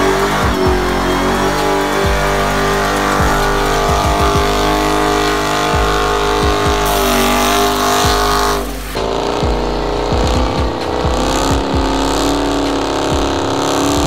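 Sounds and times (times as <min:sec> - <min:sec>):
car engine at high revs: 0:00.0 - 0:14.0.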